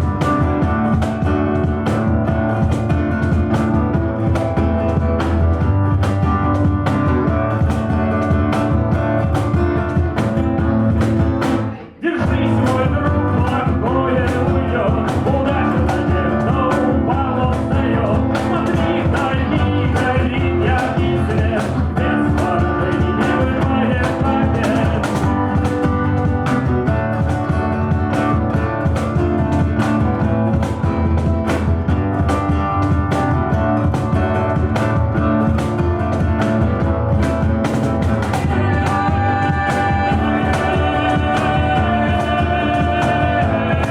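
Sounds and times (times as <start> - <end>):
music with steady beat: 0.0 - 43.9.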